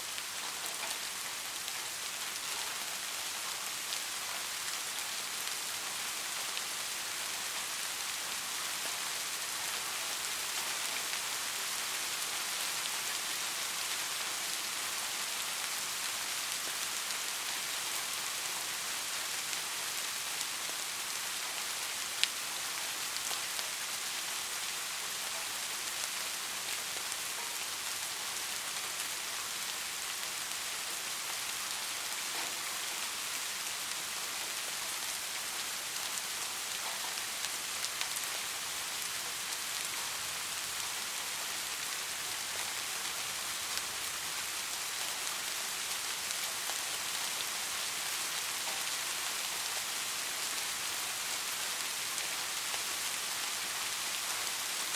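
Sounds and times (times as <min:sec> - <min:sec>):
gentle rain hiss: 0:00.0 - 0:54.9.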